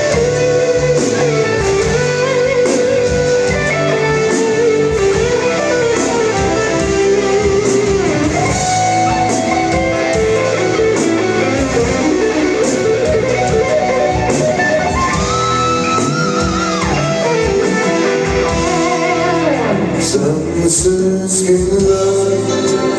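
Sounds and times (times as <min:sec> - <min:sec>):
overdriven electric guitar solo: 0:00.0 - 0:20.6.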